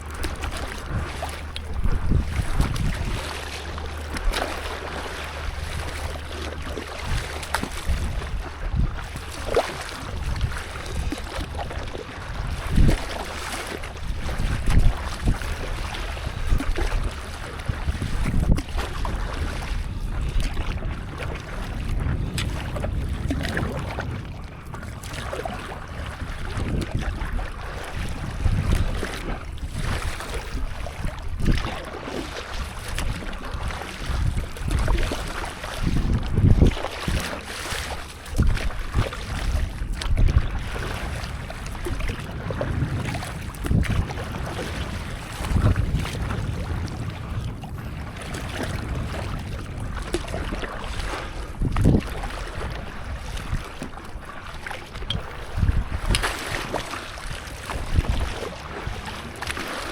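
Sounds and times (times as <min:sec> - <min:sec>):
water lapping and splashing: 0:00.0 - 0:59.9
wind buffeting microphone: 0:00.0 - 0:59.9.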